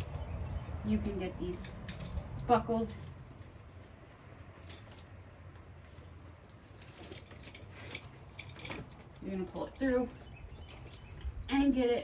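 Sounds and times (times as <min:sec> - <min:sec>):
metal buckles clinking: 0:00.0 - 0:03.8, 0:04.4 - 0:11.9.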